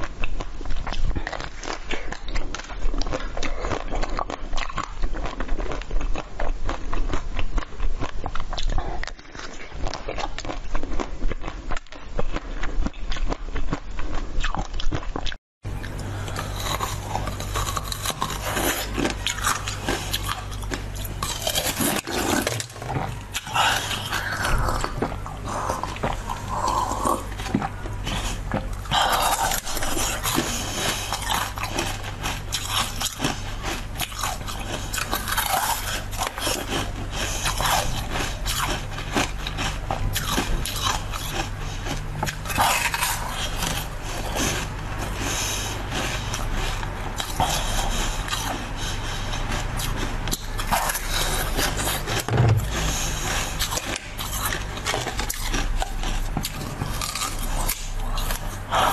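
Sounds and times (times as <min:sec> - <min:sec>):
crunching and chewing food: 0:00.0 - 0:58.9
steady low hum: 0:00.0 - 0:58.9.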